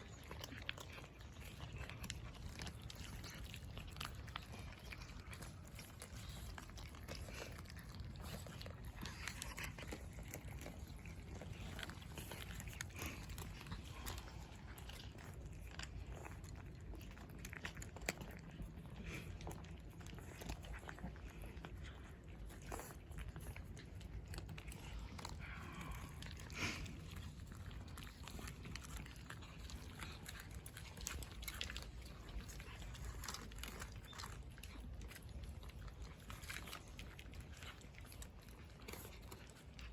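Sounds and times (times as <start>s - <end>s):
cats chewing and crunching: 0.0s - 39.9s.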